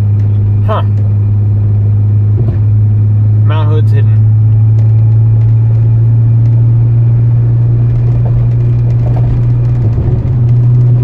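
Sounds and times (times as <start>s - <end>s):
car engine drone: 0.0s - 11.0s
road noise: 0.0s - 11.0s.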